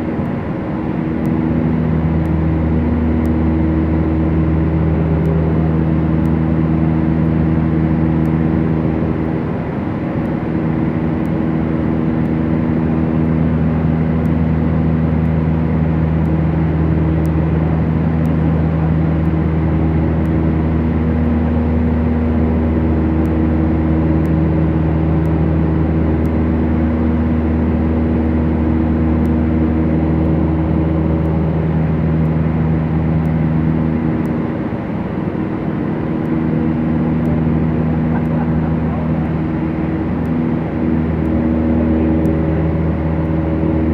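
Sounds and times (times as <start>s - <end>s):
aircraft piston engines droning: 0.0s - 43.9s.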